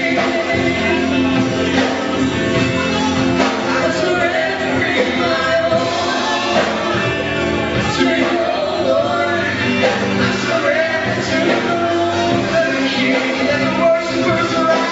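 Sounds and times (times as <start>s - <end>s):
drums: 0.0s - 14.9s
people singing: 0.0s - 14.9s
worship band playing: 0.0s - 14.9s.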